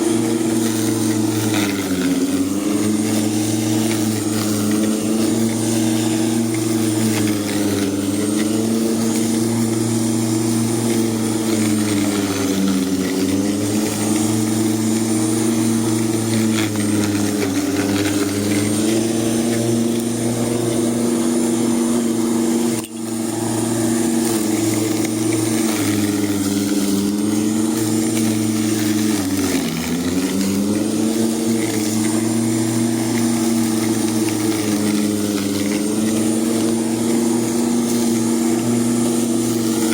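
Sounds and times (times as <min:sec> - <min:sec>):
lawn mower cutting grass: 0:00.0 - 0:39.9.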